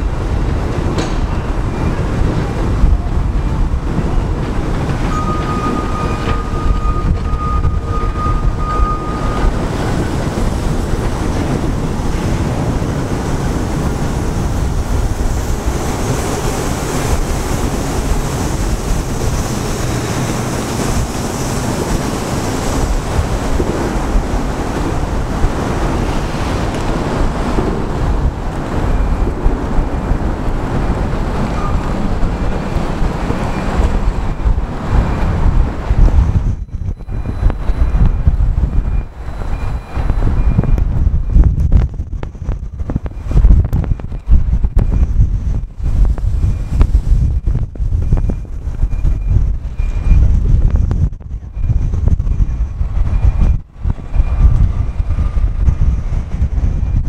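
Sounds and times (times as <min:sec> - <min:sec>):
wheels rumbling on rail: 0:00.0 - 0:57.0
wind buffeting microphone: 0:00.0 - 0:57.0.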